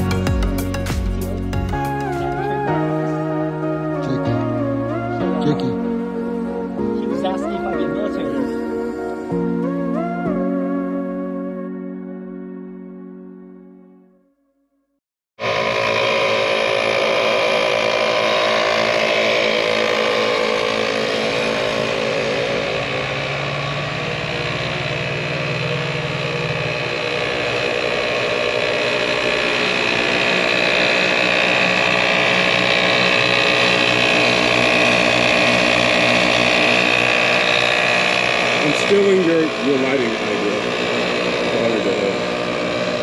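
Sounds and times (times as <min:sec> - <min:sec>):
air compressor running: 0:00.0 - 0:11.2, 0:15.4 - 0:43.0.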